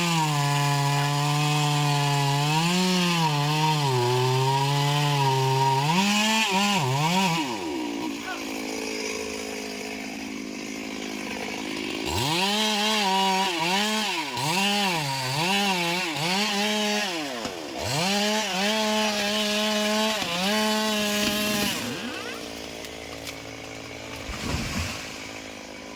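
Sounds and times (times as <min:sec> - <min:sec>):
chainsaw cutting wood: 0:00.0 - 0:25.9
chainsaw idling and revving: 0:00.0 - 0:25.9.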